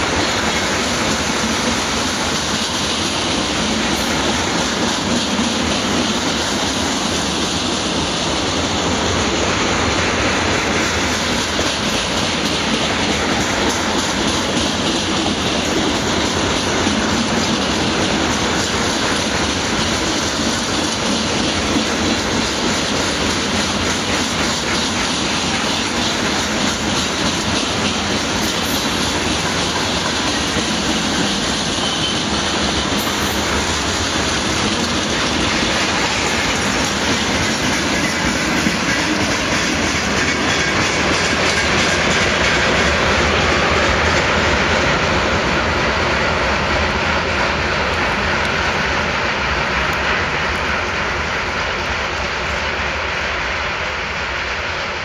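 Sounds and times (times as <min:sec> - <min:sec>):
steel wheels clattering over rail joints: 0:00.0 - 0:53.2.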